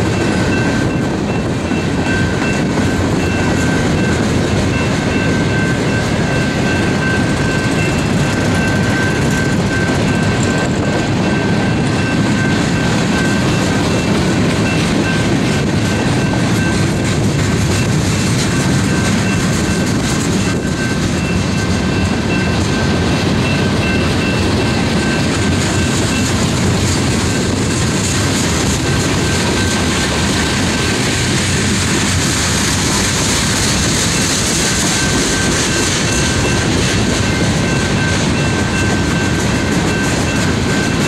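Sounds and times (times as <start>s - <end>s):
train wheels rumbling and clacking: 0.0s - 41.0s.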